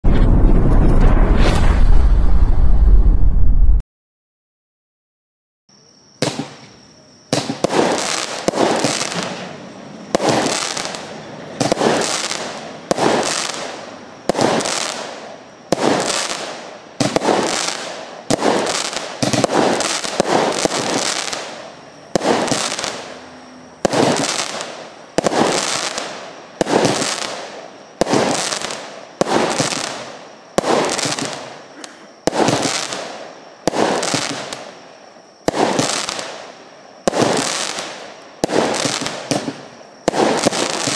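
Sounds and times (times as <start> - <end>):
fireworks bangs: 0.0 - 3.6, 6.2 - 40.9.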